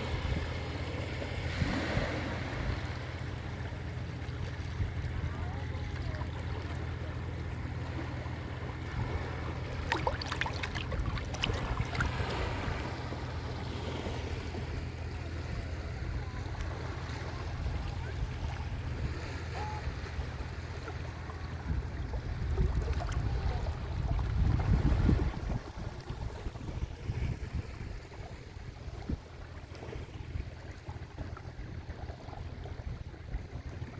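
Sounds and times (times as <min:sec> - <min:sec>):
water splashes: 0:00.0 - 0:33.9
waves washing onto shore: 0:00.0 - 0:33.9.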